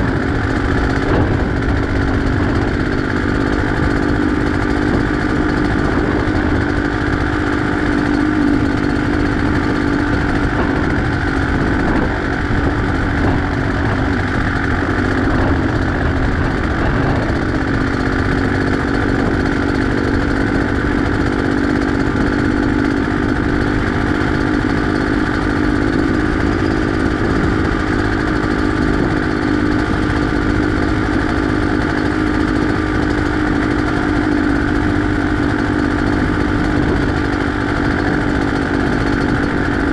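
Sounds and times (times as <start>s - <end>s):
trail bike engine running: 0.0s - 39.9s
wind noise on microphone: 0.0s - 39.9s.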